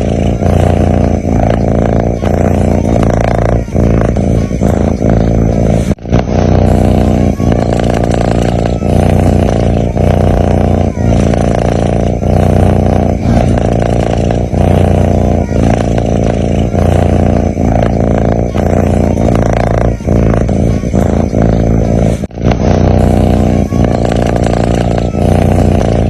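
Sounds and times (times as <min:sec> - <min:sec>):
cat breathing loudly: 0:00.0 - 0:26.0.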